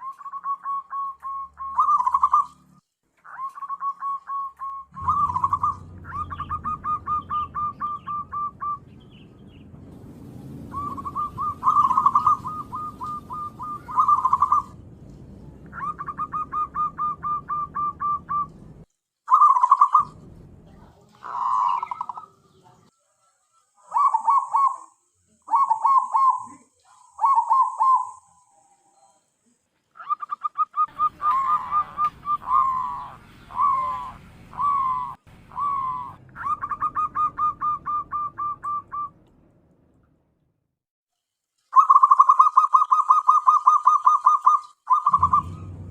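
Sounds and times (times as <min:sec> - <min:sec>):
dove cooing: 0:00.0 - 0:09.0, 0:10.7 - 0:14.8, 0:15.6 - 0:18.6, 0:19.3 - 0:20.2, 0:20.8 - 0:22.8, 0:23.8 - 0:29.1, 0:30.0 - 0:39.1, 0:41.8 - 0:45.9.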